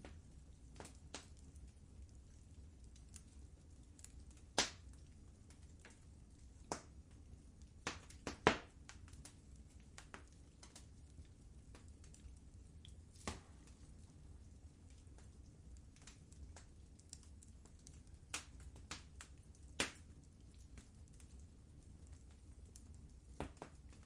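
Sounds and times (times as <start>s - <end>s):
faint low rumble: 0.0s - 24.0s
wood fire crackling: 0.0s - 24.0s.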